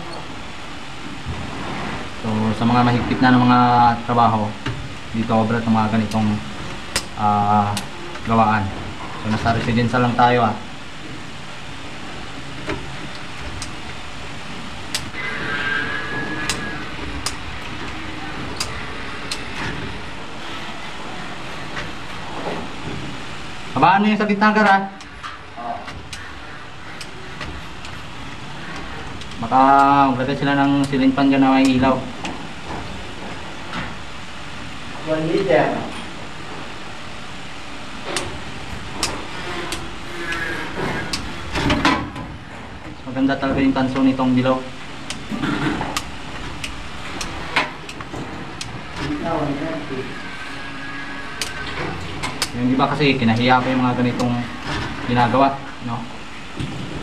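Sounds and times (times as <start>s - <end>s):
background hum: 0.0s - 57.0s
steady background noise: 0.0s - 57.0s.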